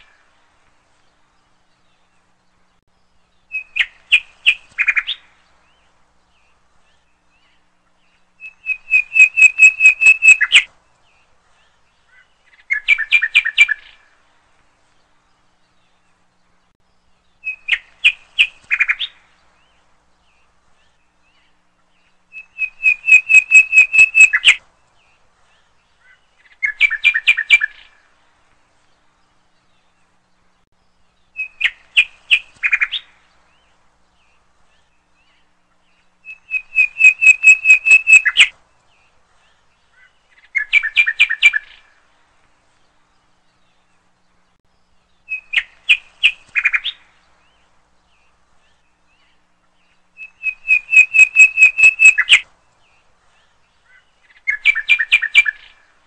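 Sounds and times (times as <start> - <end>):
bird chirping song: 0.0 - 56.0.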